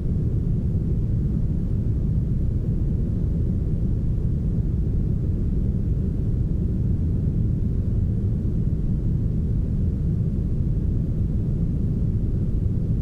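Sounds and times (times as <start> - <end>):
low steady brown noise: 0.0 - 13.0.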